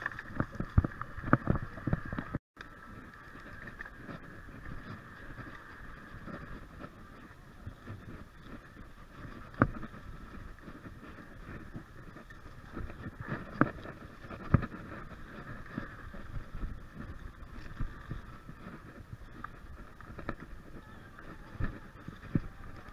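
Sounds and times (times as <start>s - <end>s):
bike tyres and frame rattling: 0.0s - 22.9s.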